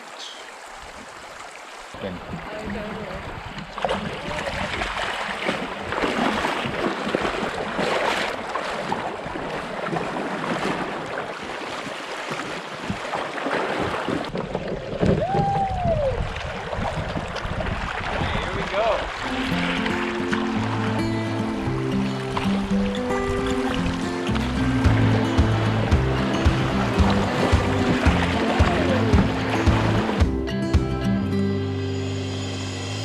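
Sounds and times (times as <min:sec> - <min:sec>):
water rushing around canoe: 0:00.0 - 0:30.4.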